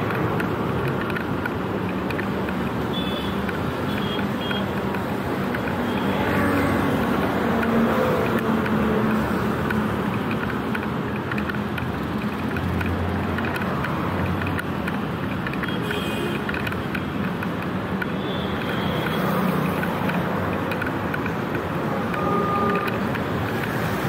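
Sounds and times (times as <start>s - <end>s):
scooters and cars passing: 0.0s - 24.0s.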